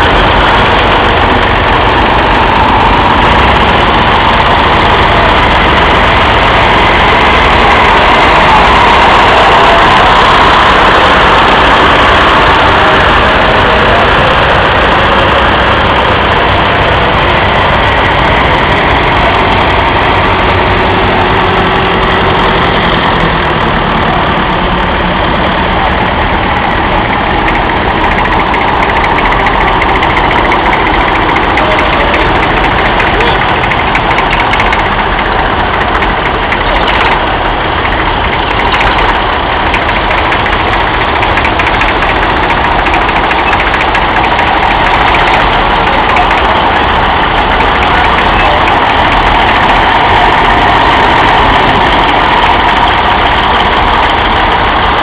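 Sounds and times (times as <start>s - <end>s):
tractor engines driving past: 0.0s - 55.0s.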